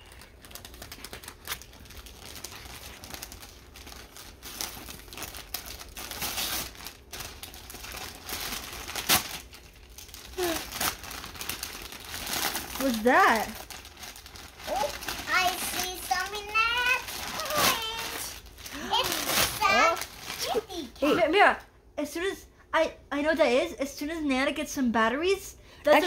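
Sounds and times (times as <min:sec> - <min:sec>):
wrapping paper crinkling and tearing: 0:00.0 - 0:21.0.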